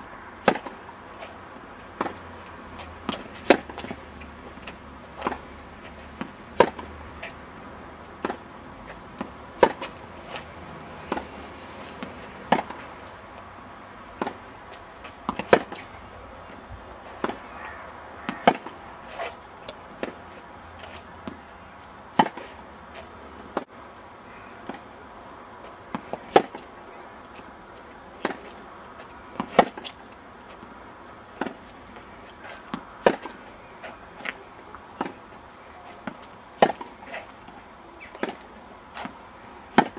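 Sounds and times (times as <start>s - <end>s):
tennis balls struck by rackets: 0.4s - 5.5s, 6.1s - 7.4s, 8.2s - 13.2s, 14.1s - 21.5s, 22.1s - 23.8s, 24.6s - 24.9s, 25.9s - 30.7s, 31.3s - 39.9s
tennis balls bouncing on court: 0.4s - 7.4s, 8.1s - 13.2s, 14.1s - 15.9s, 16.5s - 23.8s, 25.9s - 26.7s, 27.3s - 30.7s, 31.3s - 37.0s, 38.0s - 39.9s.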